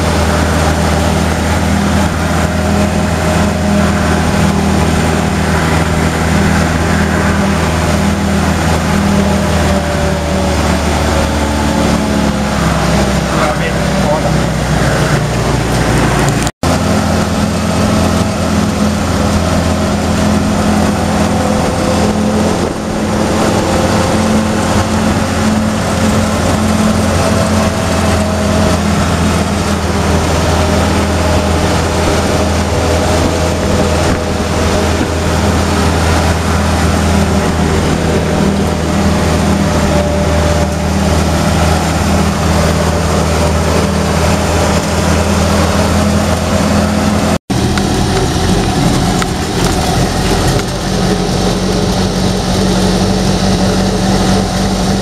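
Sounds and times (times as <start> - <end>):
jeep engine drone: 0.0 - 55.0
road noise: 0.0 - 55.0
rush of wind: 0.0 - 55.0.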